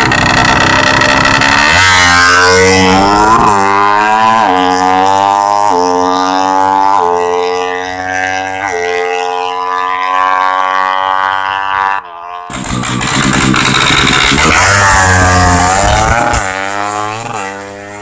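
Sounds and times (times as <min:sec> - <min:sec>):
motorbike engine revving through gears: 0:00.0 - 0:18.0.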